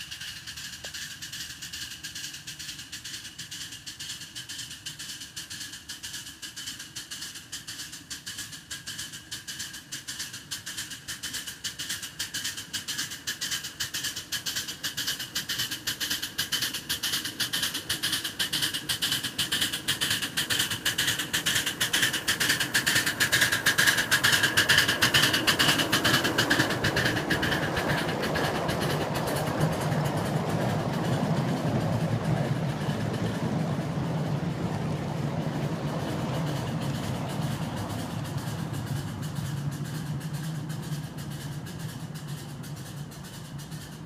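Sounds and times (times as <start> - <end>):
miniature locomotive rhythmic beat: 0.0 - 44.0
rail cars rumbling on track: 0.0 - 44.0.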